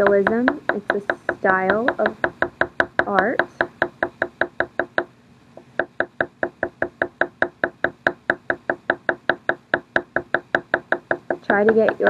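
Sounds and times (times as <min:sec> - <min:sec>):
pastel tapping on paper: 0:00.0 - 0:05.1, 0:05.7 - 0:12.0.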